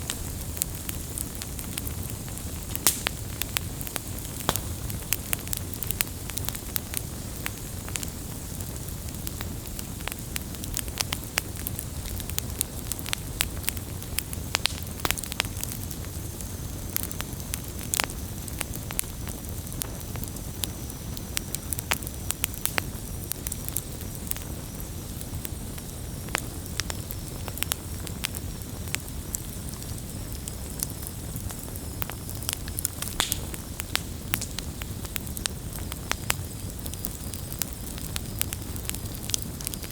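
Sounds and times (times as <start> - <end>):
campfire crackling and popping: 0.0 - 39.9
low rumble of burning wood: 0.0 - 39.9.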